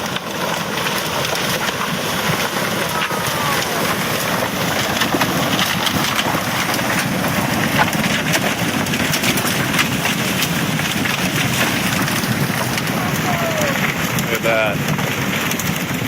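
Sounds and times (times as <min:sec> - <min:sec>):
rushing water: 0:00.0 - 0:14.9
small splashes and crackles: 0:00.0 - 0:16.0.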